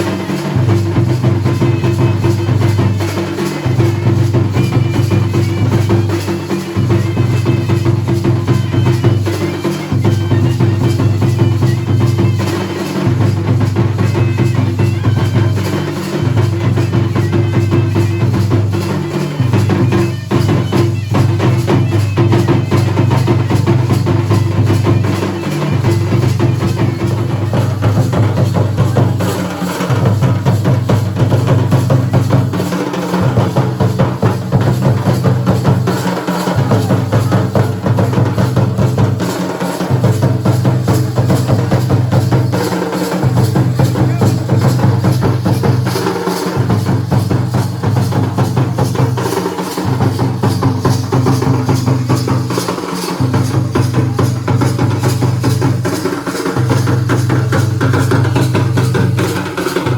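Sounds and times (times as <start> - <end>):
drums beaten fast: 0.0 - 59.9.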